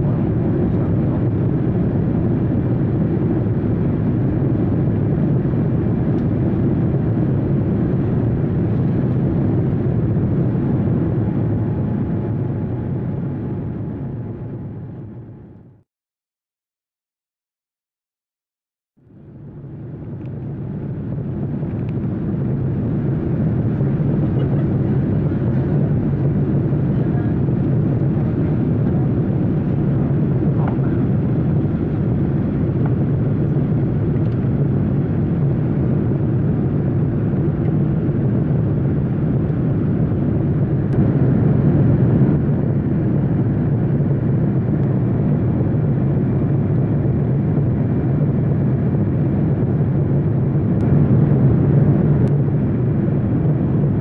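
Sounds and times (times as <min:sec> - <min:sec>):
jet airliner cabin drone: 0:00.0 - 0:15.8, 0:19.0 - 0:54.0.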